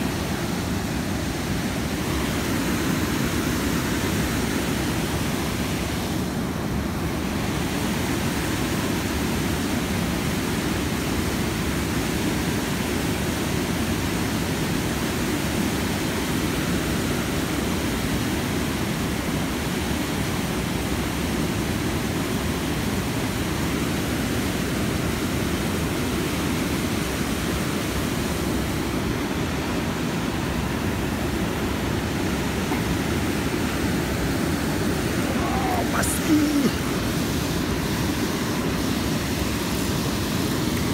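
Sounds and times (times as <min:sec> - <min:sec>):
river water rushing over dam: 0:00.0 - 0:40.9.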